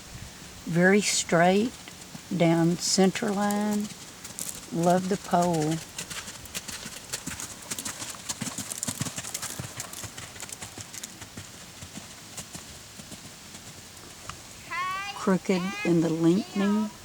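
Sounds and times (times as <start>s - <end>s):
horse hoofbeats: 0.9s - 17.0s.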